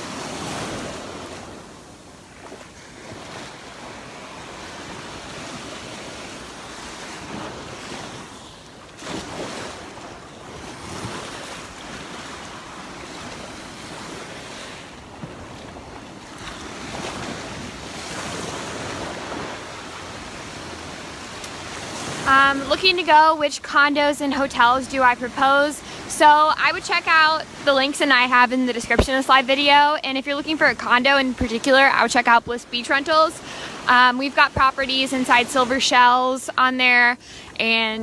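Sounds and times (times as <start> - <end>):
surf washing onto beach: 0.0 - 37.9.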